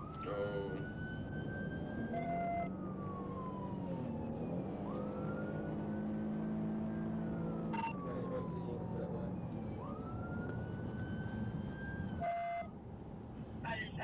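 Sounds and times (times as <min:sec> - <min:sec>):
police siren wailing: 0:00.0 - 0:12.8.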